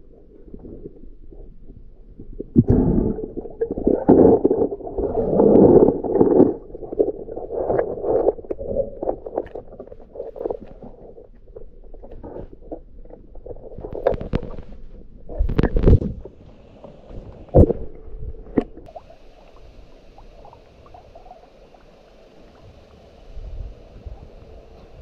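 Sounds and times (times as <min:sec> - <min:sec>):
underwater water rumble: 0:00.0 - 0:25.0.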